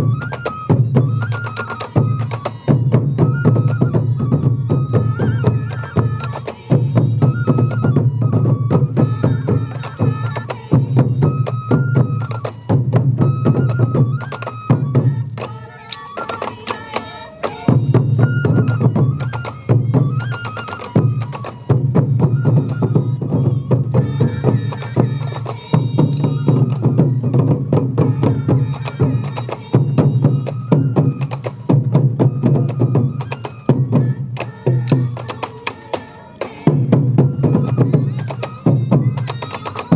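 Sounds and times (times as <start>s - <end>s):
taiko drums beating: 0.0s - 15.6s, 16.2s - 39.9s
flute melody: 0.0s - 39.9s.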